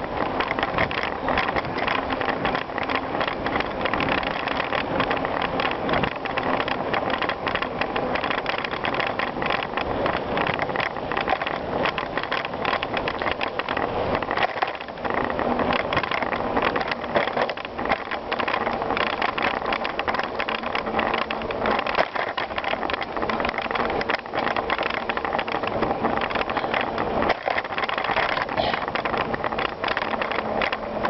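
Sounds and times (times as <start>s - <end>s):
bicycle crunching and rattling: 0.0s - 31.0s.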